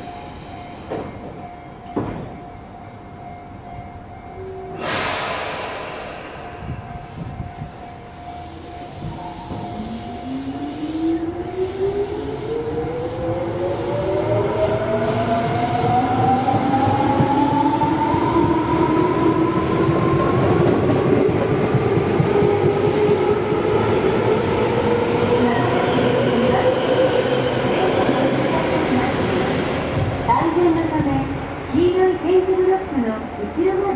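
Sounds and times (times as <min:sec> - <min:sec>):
wheels rumbling on rail: 0:04.3 - 0:31.8.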